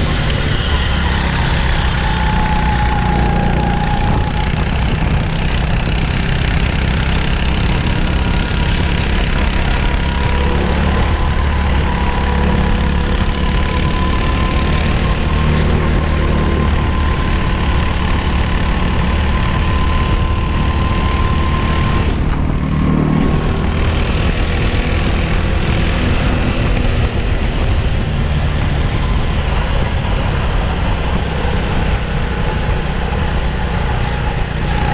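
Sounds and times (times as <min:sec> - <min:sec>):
kart engine running: 0:00.0 - 0:34.9.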